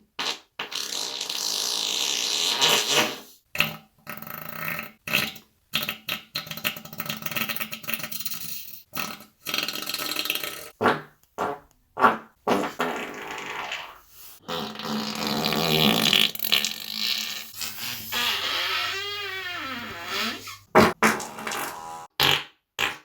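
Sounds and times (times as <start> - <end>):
farts: 0.2 - 8.0, 9.0 - 23.0.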